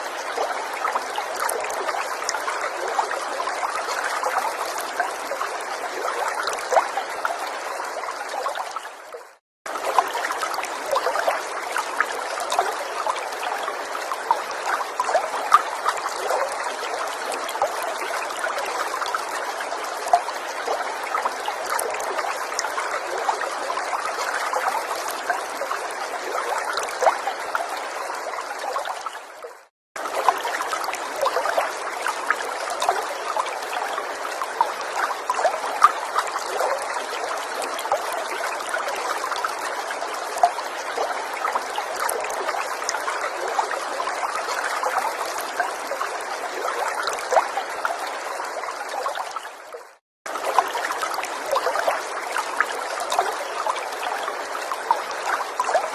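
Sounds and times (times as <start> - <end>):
forest stream trickling: 0.0 - 55.9.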